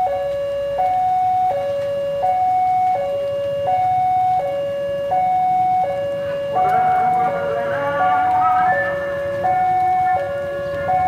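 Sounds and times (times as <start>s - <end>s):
level crossing alarm: 0.0s - 11.0s.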